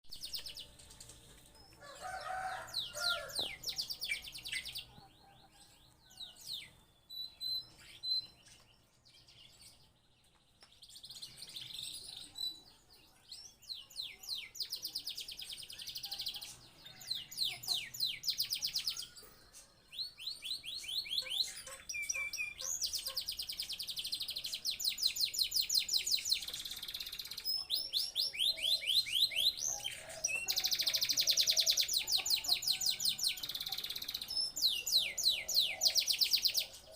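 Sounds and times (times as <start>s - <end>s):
canary singing trills: 0.1s - 9.8s, 10.8s - 36.9s.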